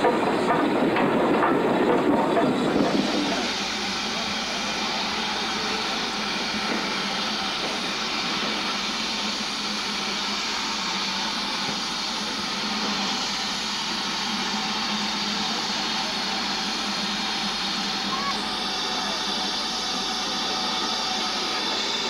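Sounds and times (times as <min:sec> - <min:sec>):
steam locomotive hissing steam: 0:00.0 - 0:22.0.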